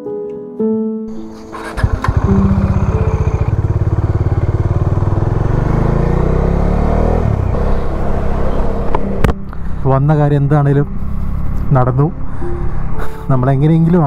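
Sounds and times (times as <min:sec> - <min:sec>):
motorcycle engine revving: 0:01.1 - 0:13.1.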